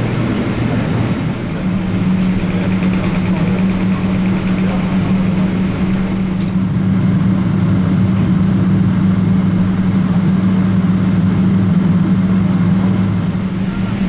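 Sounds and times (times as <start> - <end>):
jet engines idling: 0.0 - 14.0.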